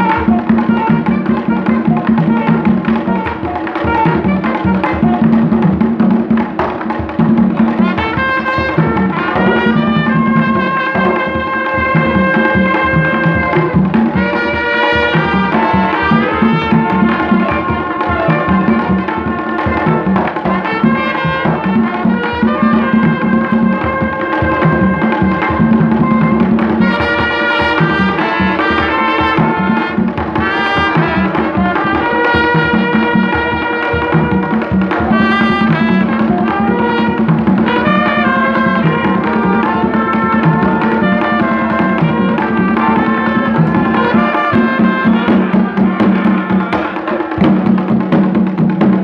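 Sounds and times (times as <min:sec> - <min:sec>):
hand drums beating: 0:00.0 - 0:49.0
trumpet lines and horn notes: 0:00.0 - 0:49.0.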